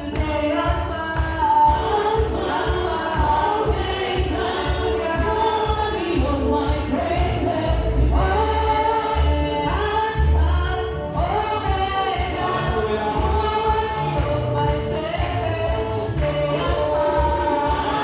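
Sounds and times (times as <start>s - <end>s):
instrumental backing with bass: 0.0s - 18.0s
voices singing together: 0.0s - 18.0s.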